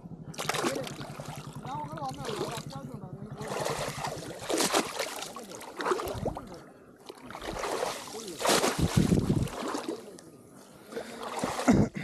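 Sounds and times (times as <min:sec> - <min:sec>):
water gurgling: 0:00.2 - 0:12.0
water sloshing around wading legs: 0:00.3 - 0:11.9.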